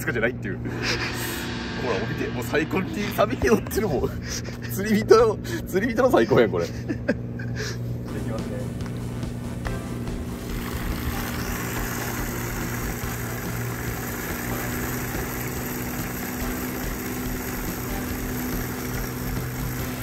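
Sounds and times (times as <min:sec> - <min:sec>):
motor idling low hum: 0:00.0 - 0:20.0.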